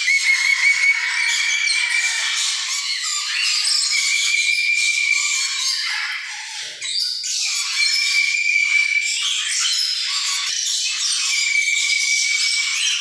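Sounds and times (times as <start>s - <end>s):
caged birds chattering and squawking: 0.0s - 13.0s.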